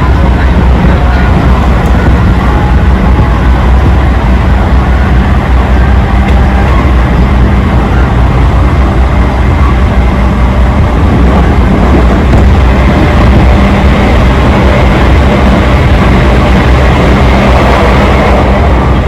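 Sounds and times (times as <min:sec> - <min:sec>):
electric train running at speed: 0:00.0 - 0:19.0.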